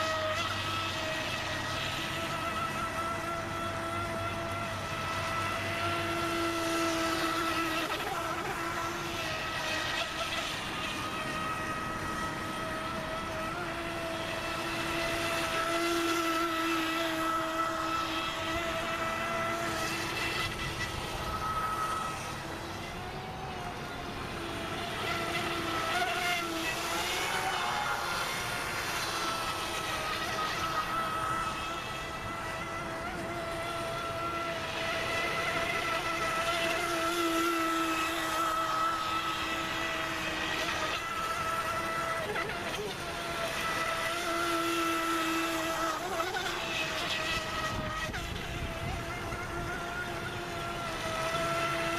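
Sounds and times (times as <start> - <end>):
electric motor high whine: 0.0 - 51.9.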